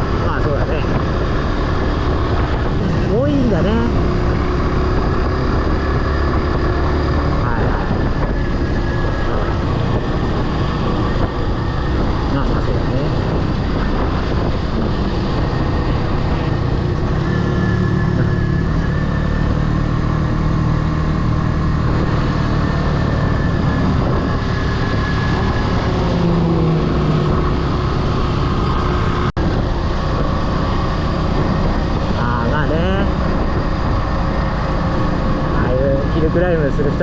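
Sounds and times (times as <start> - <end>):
motorcycle engine running: 0.0 - 37.0
wind rush over microphone: 0.0 - 37.0.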